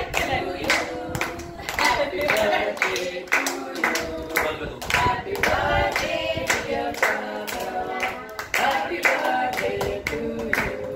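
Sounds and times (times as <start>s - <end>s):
people singing together: 0.0s - 10.9s
people clapping in time: 0.1s - 10.9s.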